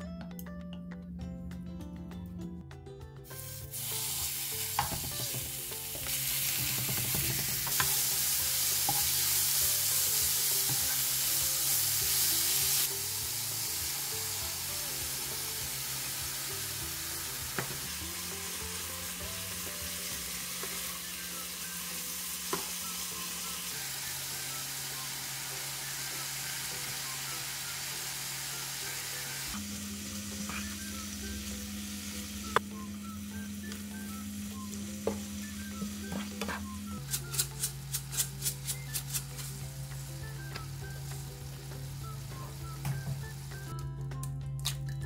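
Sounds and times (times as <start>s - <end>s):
soft background music: 0.0s - 45.0s
beef sizzling in a pan: 3.3s - 32.6s, 33.3s - 43.7s.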